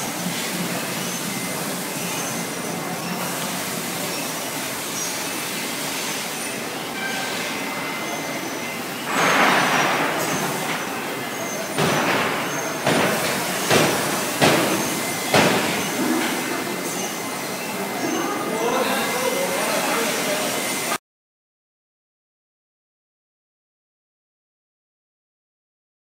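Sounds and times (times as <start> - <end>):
factory floor din: 0.0 - 21.0.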